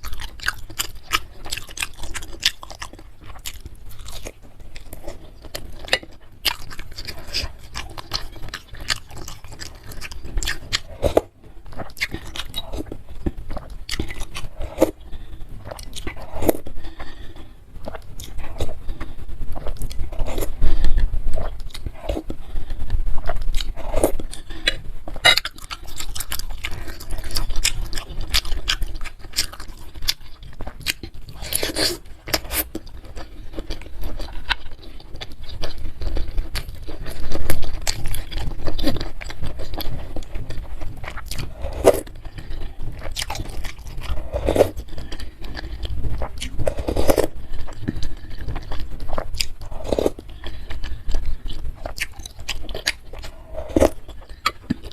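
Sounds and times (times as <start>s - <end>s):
wet chewing and biting: 0.0s - 54.9s.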